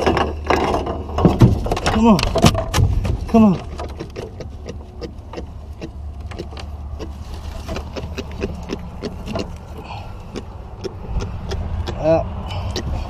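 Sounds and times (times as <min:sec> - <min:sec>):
steady low rumble: 0:00.1 - 0:13.0.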